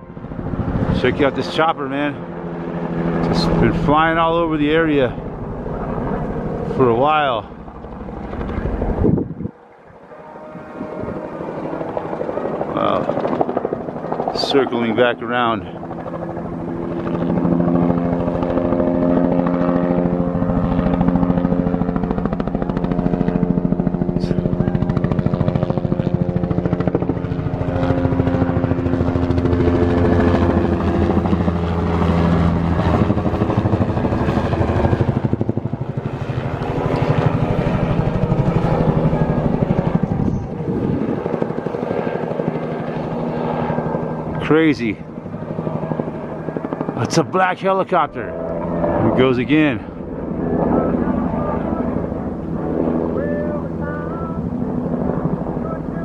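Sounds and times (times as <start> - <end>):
helicopter rotor chop: 0.0 - 56.0.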